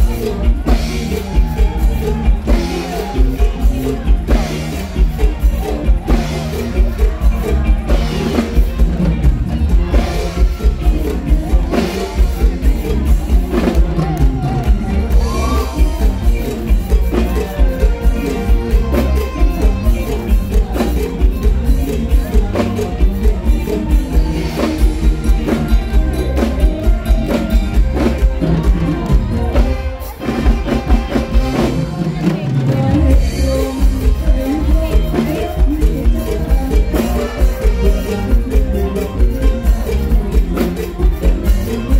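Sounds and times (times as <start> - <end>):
drum kit beat: 0.0 - 41.9
live band music: 0.0 - 41.9.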